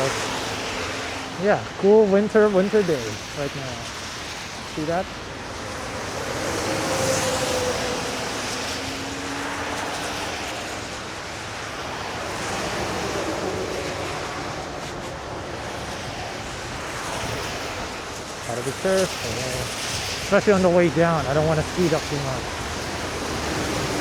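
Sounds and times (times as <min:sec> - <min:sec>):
traffic rushing: 0:00.0 - 0:24.0
wind rushing over microphone: 0:00.0 - 0:24.0.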